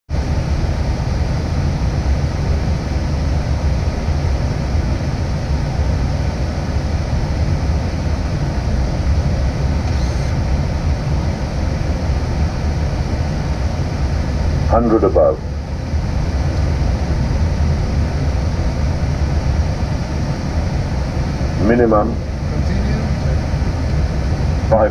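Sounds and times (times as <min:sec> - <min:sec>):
deep rumble: 0:00.1 - 0:24.9.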